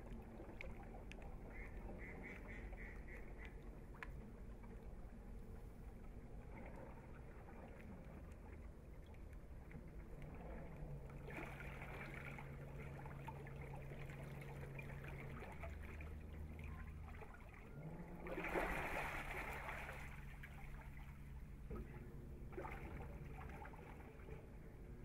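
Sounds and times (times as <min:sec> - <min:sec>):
water churning around hull: 0:00.0 - 0:25.0.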